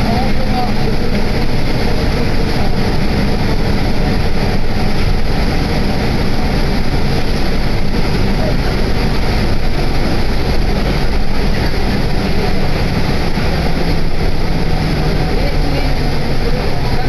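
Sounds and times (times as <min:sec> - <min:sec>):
bus engine and tyre rumble: 0:00.0 - 0:17.0.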